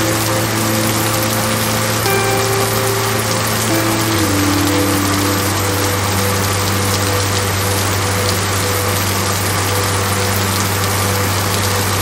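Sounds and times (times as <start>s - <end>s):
background music low chord: 0.0s - 12.0s
waterfall rushing into pool: 0.0s - 12.0s.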